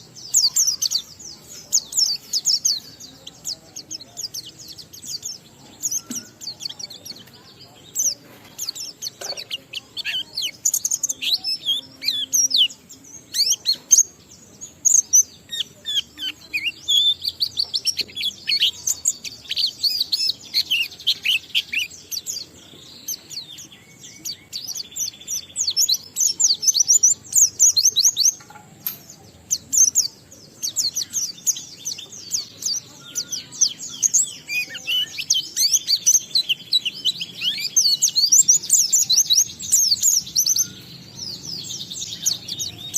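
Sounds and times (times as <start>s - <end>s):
bird twittering song: 0.0s - 42.9s.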